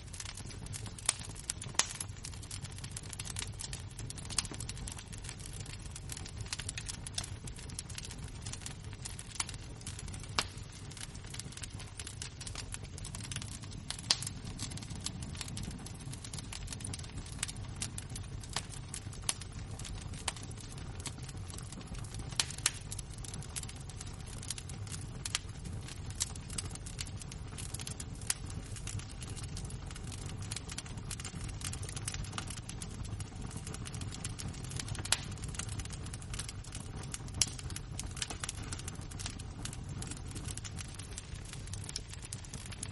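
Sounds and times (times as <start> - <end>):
embers crackling and popping: 0.0 - 42.9.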